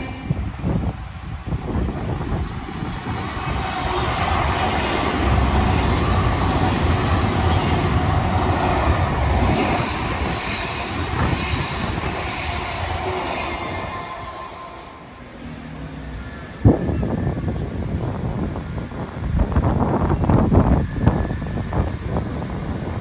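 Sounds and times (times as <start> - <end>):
train passing: 0.0 - 23.0.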